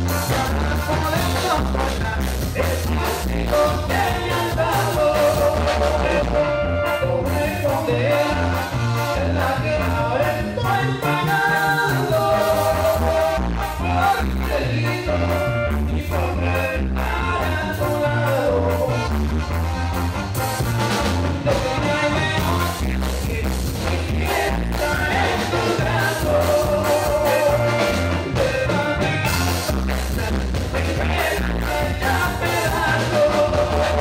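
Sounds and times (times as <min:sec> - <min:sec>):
bass and drum beat: 0:00.0 - 0:34.0.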